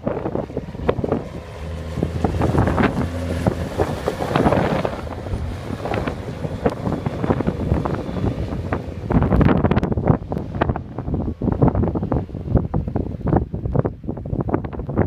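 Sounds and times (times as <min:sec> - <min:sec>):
tractor diesel engine drone: 0:00.0 - 0:12.7
wind gusting on microphone: 0:00.0 - 0:15.0.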